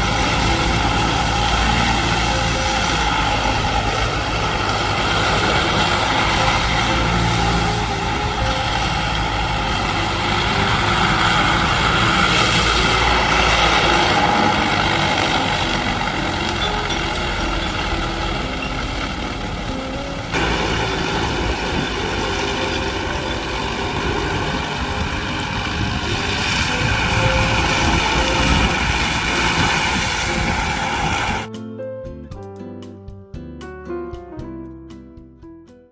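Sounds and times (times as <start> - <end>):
diesel engine running: 0.0 - 31.5
mower attachment cutting weeds: 0.0 - 31.5.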